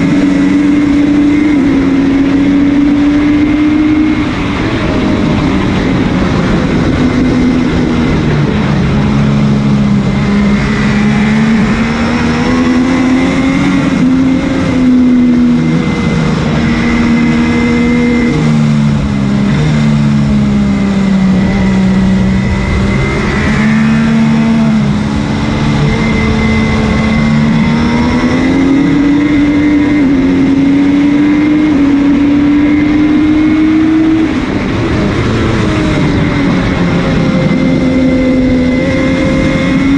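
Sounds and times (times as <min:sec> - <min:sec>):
loud wind rush: 0:00.0 - 0:39.9
motorcycle engine revving through gears: 0:00.0 - 0:39.9.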